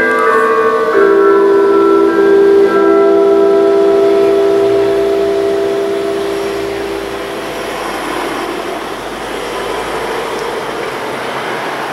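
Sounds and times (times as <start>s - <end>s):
church bells ringing: 0.0s - 11.9s
traffic rushing noise: 0.0s - 11.9s.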